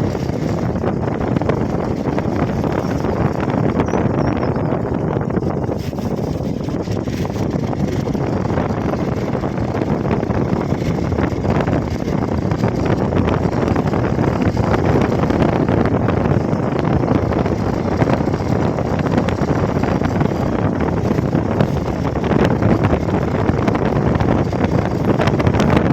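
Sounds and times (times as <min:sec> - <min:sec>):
motorcycle engine running: 0:00.0 - 0:25.9
wind buffeting microphone: 0:00.0 - 0:25.9.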